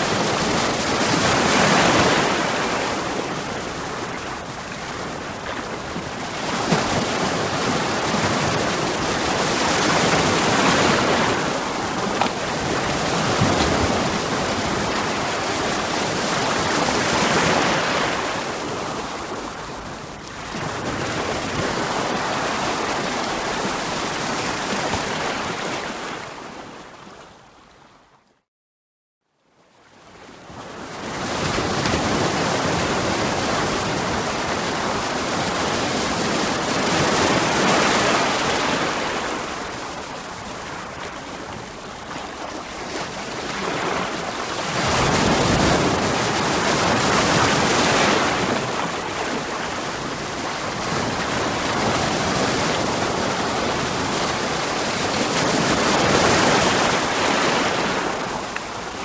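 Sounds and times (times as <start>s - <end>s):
ocean waves breaking over rocks: 0.0s - 26.7s, 31.0s - 59.0s.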